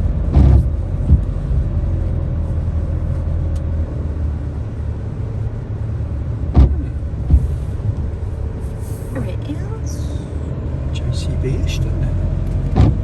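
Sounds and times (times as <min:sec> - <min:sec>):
road rumble: 0:00.0 - 0:13.0
van engine running: 0:00.0 - 0:13.0.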